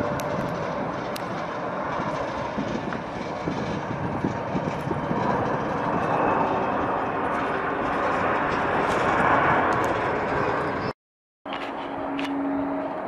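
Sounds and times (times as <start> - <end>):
jet engines of taxiing airliners: 0.0 - 13.0.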